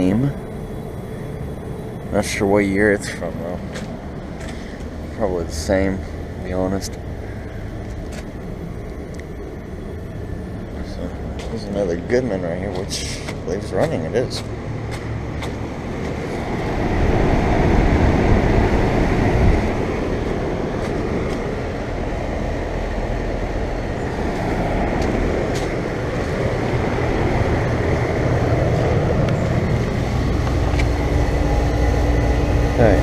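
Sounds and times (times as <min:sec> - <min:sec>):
compressor hum: 0:00.0 - 0:33.0
condenser fan air rush: 0:00.0 - 0:33.0.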